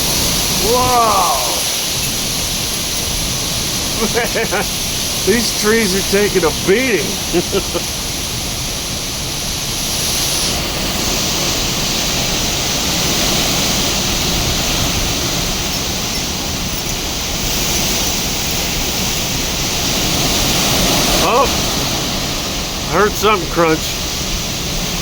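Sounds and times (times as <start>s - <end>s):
wind buffeting microphone: 0.0s - 23.0s
wind rushing through trees: 0.0s - 25.0s.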